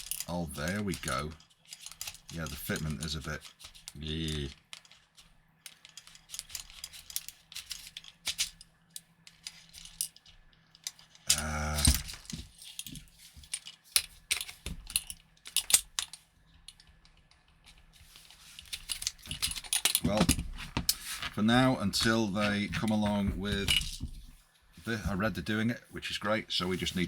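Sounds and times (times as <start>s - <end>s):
clicks and rattles of parts: 0.0s - 25.2s.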